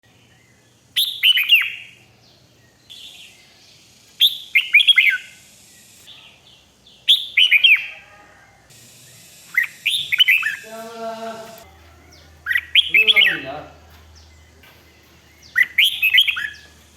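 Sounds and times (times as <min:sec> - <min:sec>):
bird singing whistled notes: 0:00.0 - 0:08.0, 0:09.1 - 0:16.9.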